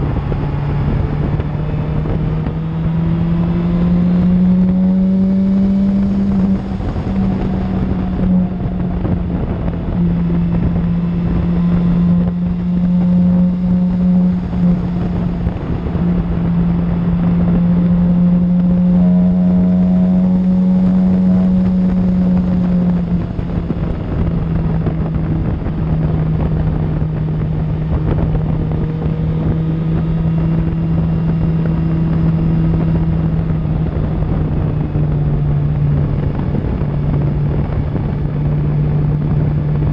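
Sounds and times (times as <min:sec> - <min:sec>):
motorcycle engine cruising: 0:00.0 - 0:39.9
wind on microphone: 0:00.0 - 0:39.9.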